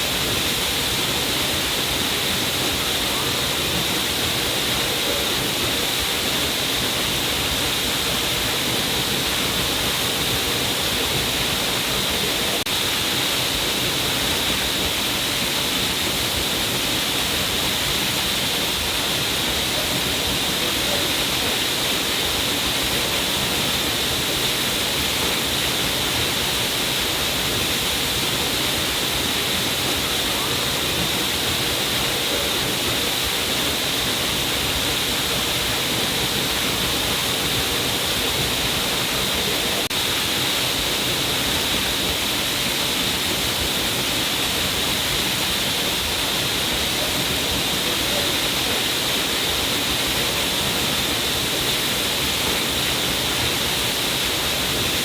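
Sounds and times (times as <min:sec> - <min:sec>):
water rushing down cliff: 0:00.0 - 0:55.0.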